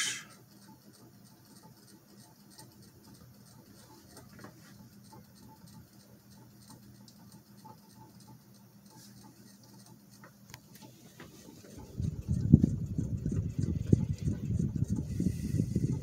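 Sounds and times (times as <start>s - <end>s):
ceiling fan motor humming: 0.0s - 16.0s
fan light ticking: 0.0s - 16.0s.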